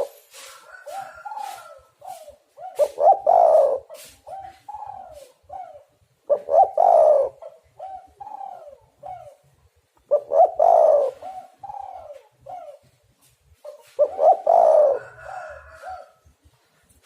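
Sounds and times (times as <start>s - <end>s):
dove cooing: 0.0s - 13.0s, 13.6s - 16.3s.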